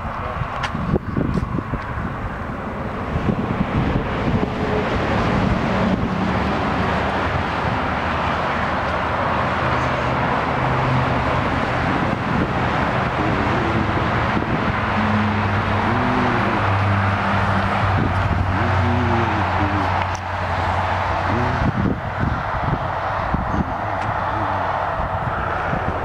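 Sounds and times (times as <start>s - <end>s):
faint engine hum: 0.0s - 26.0s
road traffic passing: 0.0s - 26.0s
wind buffeting microphone: 0.0s - 26.0s.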